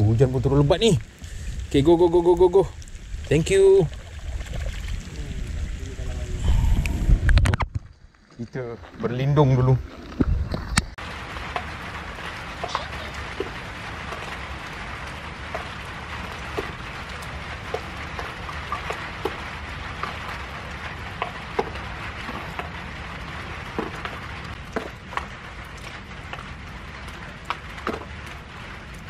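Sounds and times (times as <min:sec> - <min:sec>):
heavy rain falling: 0:00.0 - 0:07.7, 0:10.8 - 0:29.0
large drops dripping close by: 0:00.0 - 0:08.8, 0:11.0 - 0:29.0.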